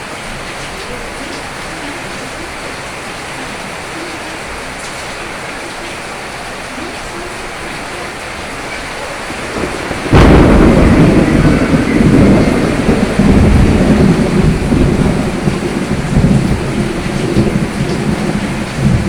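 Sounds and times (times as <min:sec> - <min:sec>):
rolling thunder: 0:00.0 - 0:19.0
steady rain: 0:00.0 - 0:19.0.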